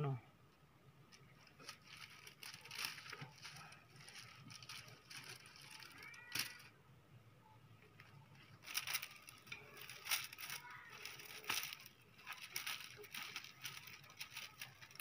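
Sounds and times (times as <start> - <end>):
grass stalks rustling and scraping: 1.2 - 6.7, 8.1 - 15.0.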